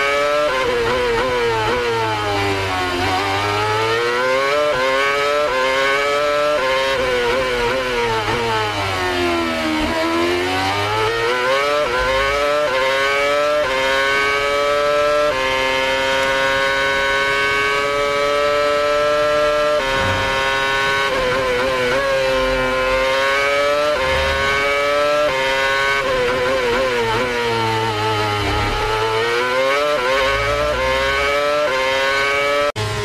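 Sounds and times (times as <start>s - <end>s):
racing engine revving: 0.0s - 33.0s.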